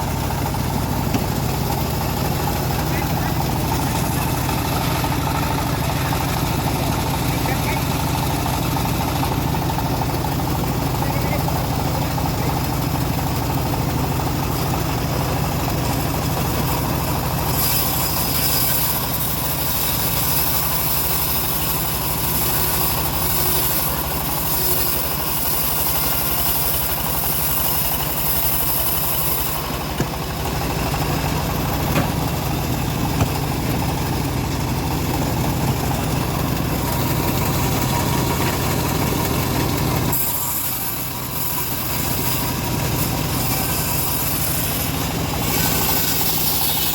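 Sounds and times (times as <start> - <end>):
band saw cutting timber: 0.0 - 46.9.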